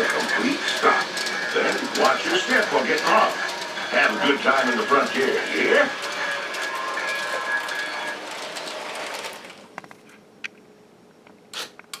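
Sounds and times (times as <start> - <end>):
recorded train rumble through speaker: 0.0 - 10.0
high whine: 0.0 - 10.1.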